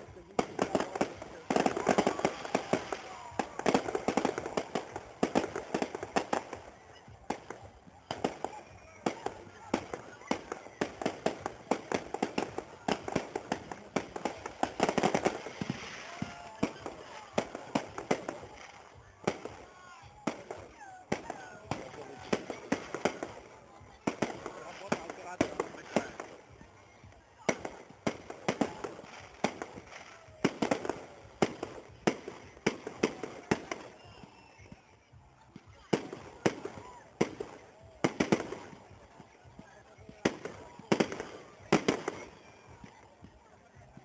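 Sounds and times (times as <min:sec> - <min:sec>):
fireworks bangs and pops: 0:00.0 - 0:44.0.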